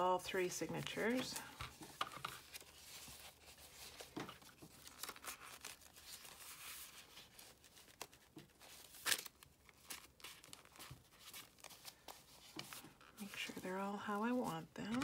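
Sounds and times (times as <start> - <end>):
paper rustling and crinkling: 0.8 - 15.0.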